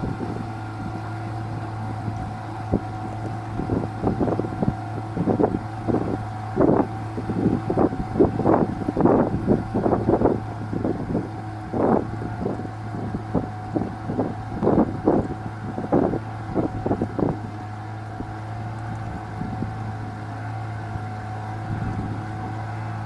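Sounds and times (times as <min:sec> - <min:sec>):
boat engine humming: 0:00.0 - 0:23.0
wind buffeting microphone: 0:00.0 - 0:23.0.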